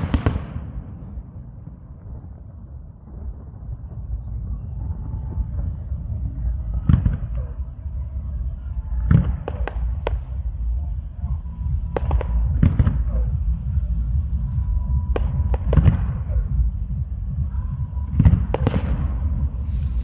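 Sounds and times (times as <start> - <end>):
continuous low rumble: 0.0 - 20.0
fireworks booming: 0.0 - 20.0
fireworks crackling: 0.0 - 20.0.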